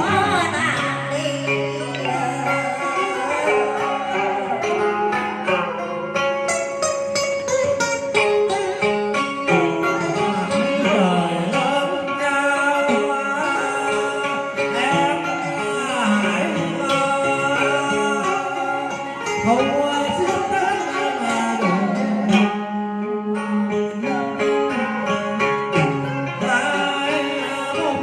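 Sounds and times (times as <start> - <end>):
person singing wavering vocals: 0.0 - 28.0
plucked string accompaniment: 0.0 - 28.0.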